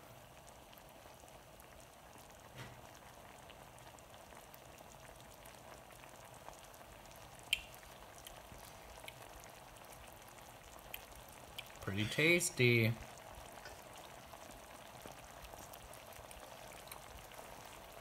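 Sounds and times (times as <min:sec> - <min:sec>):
sauce bubbling in skillet: 0:00.0 - 0:18.0.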